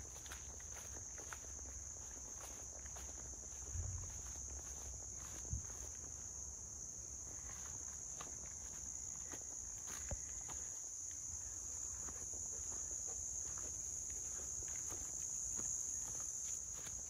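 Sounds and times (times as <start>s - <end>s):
footsteps crunching on path: 0.0s - 17.0s
insect chorus: 0.0s - 17.0s.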